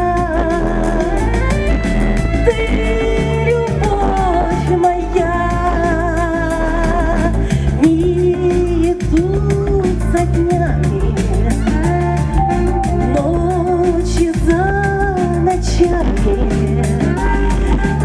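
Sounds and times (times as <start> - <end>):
backing track with bass line: 0.0 - 18.0
woman singing pop song: 0.0 - 18.0.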